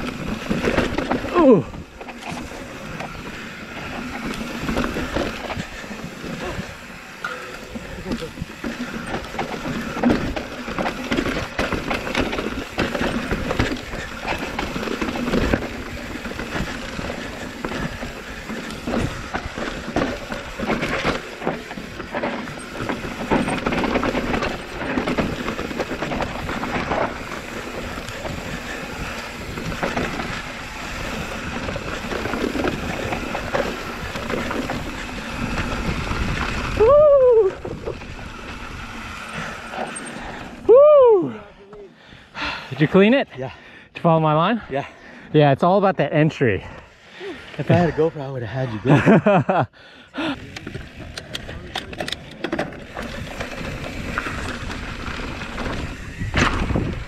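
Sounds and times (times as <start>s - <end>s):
bike knocks and rattles: 0.0s - 40.6s, 50.4s - 57.0s
bike tyre rumble on dirt: 0.0s - 43.6s, 46.2s - 57.0s.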